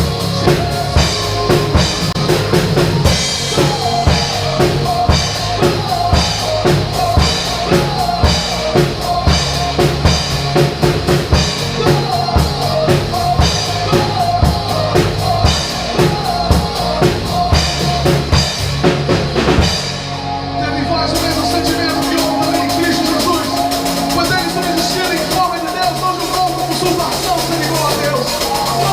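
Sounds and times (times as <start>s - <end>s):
drum kit playing: 0.0s - 28.9s
recorded worship song: 0.0s - 28.9s.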